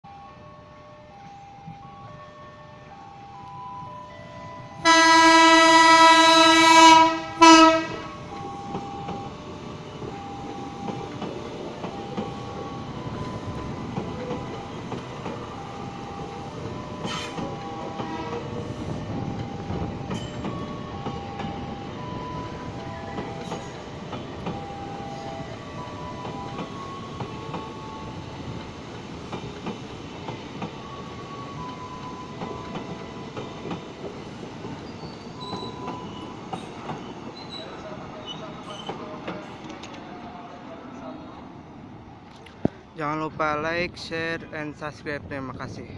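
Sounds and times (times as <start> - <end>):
train rumbling past: 1.0 - 45.9.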